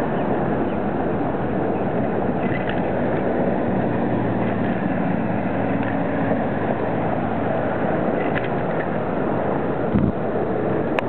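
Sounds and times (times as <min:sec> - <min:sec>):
faint road traffic hum: 0:00.0 - 0:11.0
wind rush on microphone: 0:00.0 - 0:11.0.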